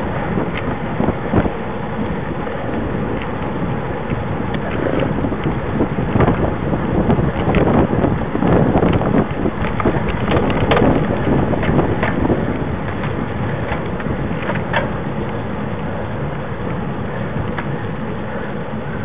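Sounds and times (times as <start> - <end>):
knocks and rattles from road: 0.0 - 18.2
bicycle rumble: 0.0 - 19.0
wind buffeting microphone: 0.0 - 19.0.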